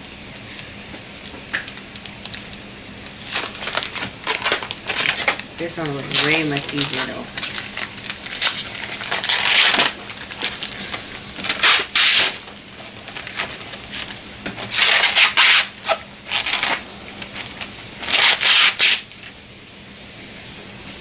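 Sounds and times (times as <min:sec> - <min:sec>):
plastic packaging scraping: 0:02.3 - 0:19.3.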